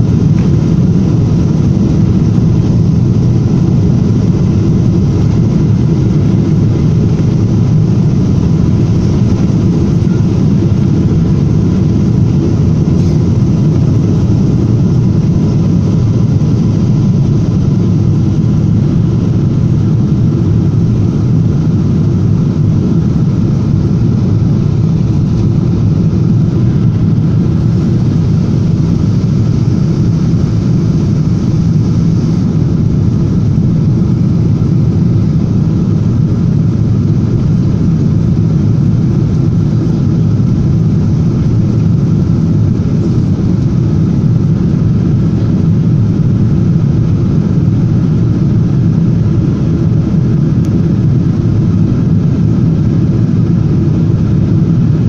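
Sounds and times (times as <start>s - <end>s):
faint steady whine: 0.0s - 55.0s
jet engines roaring: 0.0s - 55.0s.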